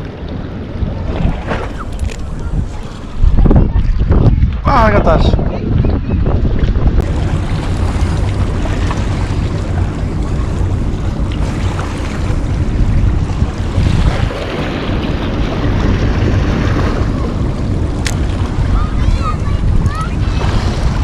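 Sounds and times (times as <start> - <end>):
wind blowing across microphone: 0.0 - 21.0.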